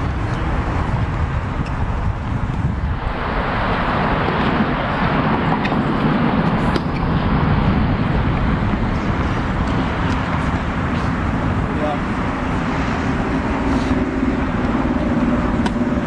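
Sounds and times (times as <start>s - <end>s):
rushing outdoor noise with rumble: 0.0s - 16.0s.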